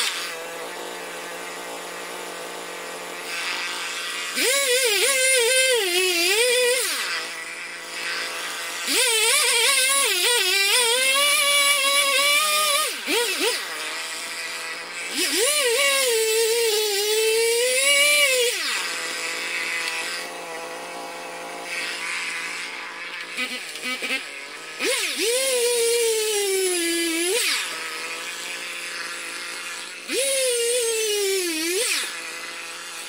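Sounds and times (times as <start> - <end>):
chainsaw cutting logs: 0.0 - 33.0.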